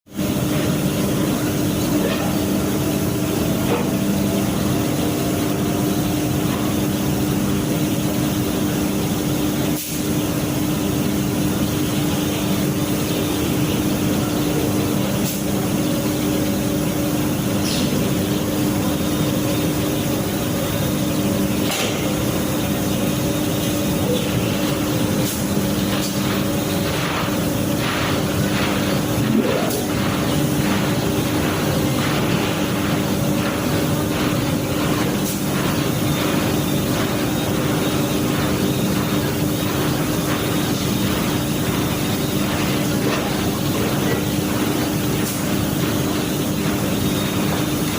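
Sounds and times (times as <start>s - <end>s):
washing machine running: 0.1s - 47.9s.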